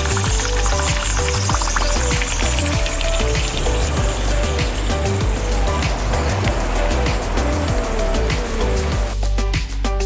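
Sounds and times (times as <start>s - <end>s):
steady rushing noise: 0.0s - 9.2s
music with steady beat: 0.0s - 10.0s.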